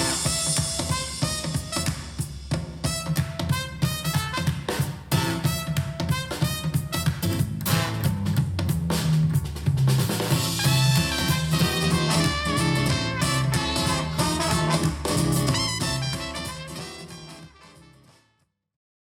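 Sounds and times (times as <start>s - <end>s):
swing music with brass: 0.0s - 18.4s.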